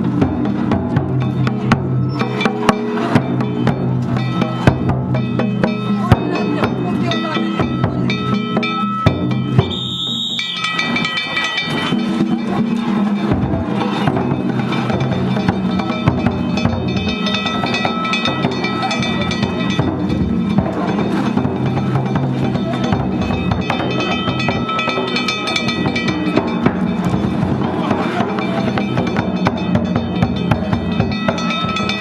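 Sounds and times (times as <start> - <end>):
taiko drum: 0.0 - 32.0
small gongs ringing: 2.2 - 32.0.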